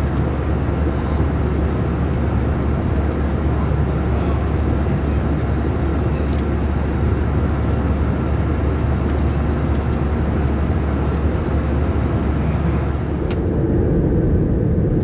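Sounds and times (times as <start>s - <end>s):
airliner cabin rumble: 0.0s - 13.8s.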